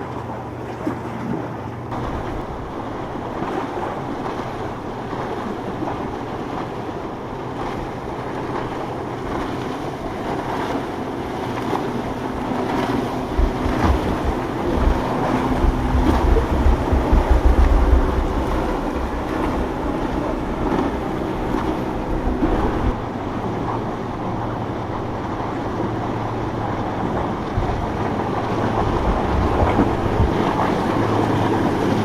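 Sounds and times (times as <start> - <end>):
motorboat engines passing: 0.0 - 32.0
surf washing: 0.0 - 32.0
wind buffeting microphone: 0.0 - 32.0.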